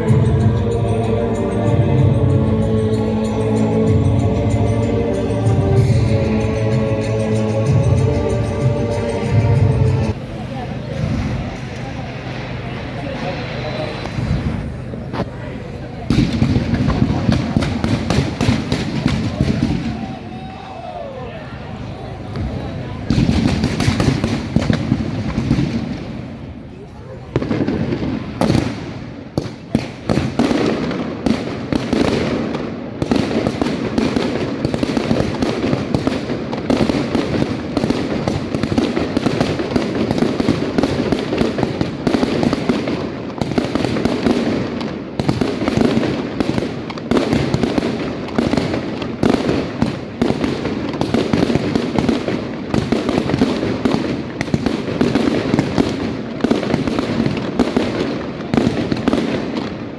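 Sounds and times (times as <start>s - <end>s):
fireworks bangs and crackles: 0.0s - 21.0s, 21.6s - 59.9s.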